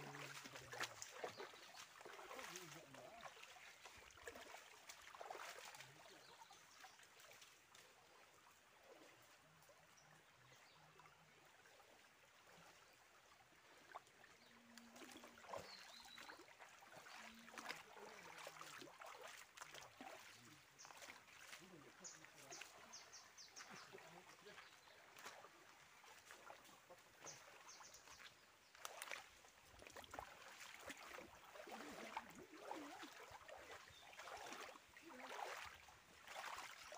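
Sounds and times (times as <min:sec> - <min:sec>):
stream trickling over rocks: 0:00.0 - 0:36.9.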